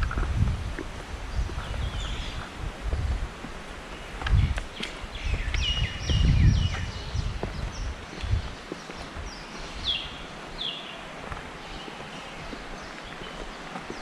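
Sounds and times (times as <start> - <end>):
footsteps on a path: 0.0 - 14.0
birds chirping: 1.3 - 14.0.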